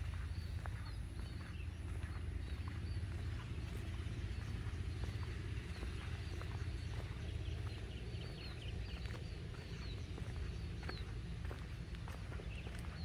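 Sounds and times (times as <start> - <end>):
birds chirping: 0.0 - 13.0
footsteps on a path: 0.0 - 13.0.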